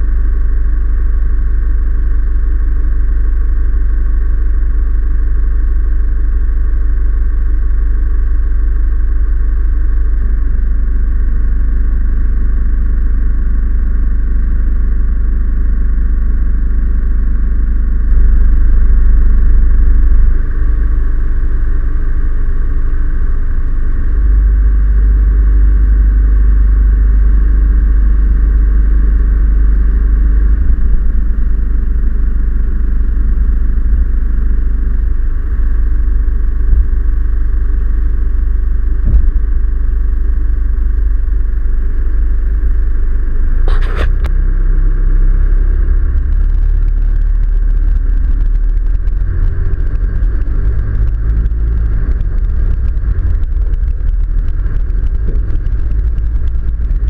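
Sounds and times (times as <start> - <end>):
vehicle engine low rumble: 0.0 - 57.0.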